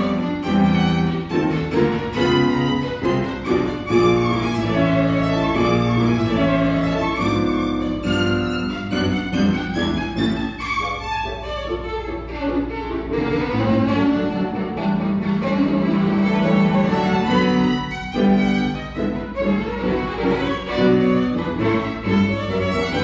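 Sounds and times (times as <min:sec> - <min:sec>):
bowed violin classical piece: 0:00.0 - 0:23.0.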